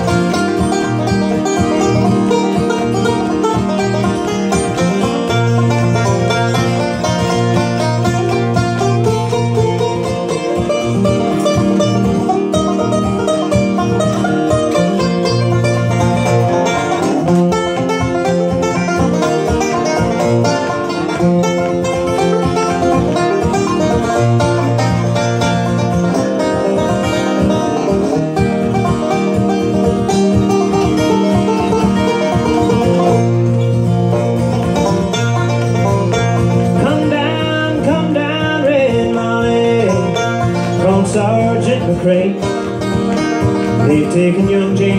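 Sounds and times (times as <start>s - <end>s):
acoustic guitar strumming: 0.0s - 44.9s
banjo picking: 0.0s - 44.9s.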